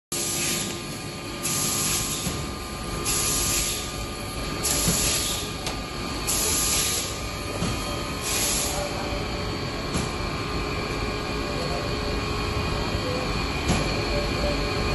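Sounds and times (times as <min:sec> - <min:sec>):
workshop machinery drone: 0:00.1 - 0:14.9.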